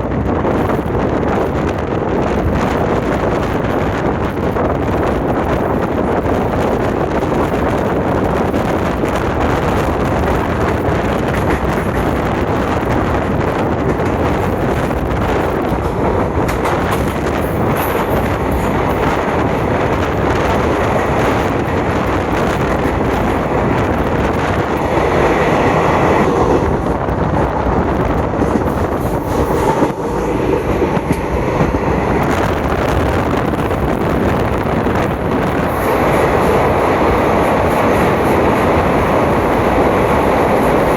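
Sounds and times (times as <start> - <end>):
train wheels rumbling on track: 0.0 - 40.9.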